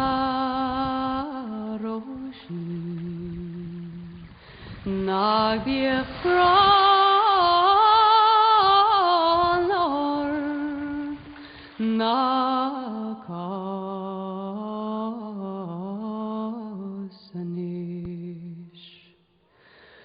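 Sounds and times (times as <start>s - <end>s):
person singing wordless long notes: 0.0s - 19.2s.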